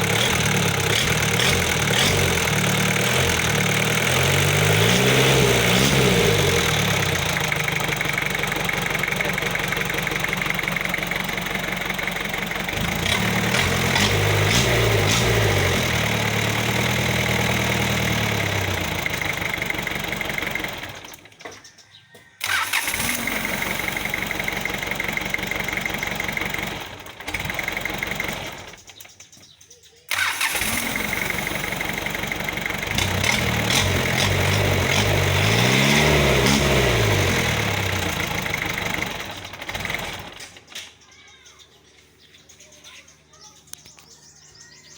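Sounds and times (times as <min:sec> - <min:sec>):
diesel engine revving: 0:00.0 - 0:21.4, 0:22.4 - 0:29.2, 0:30.1 - 0:40.8.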